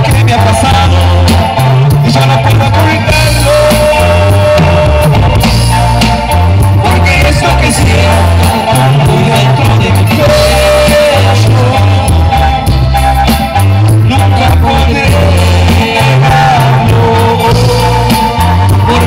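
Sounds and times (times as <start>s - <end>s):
person singing: 0.0s - 5.8s, 6.7s - 12.8s, 13.9s - 19.0s
live band through pa: 0.0s - 19.0s.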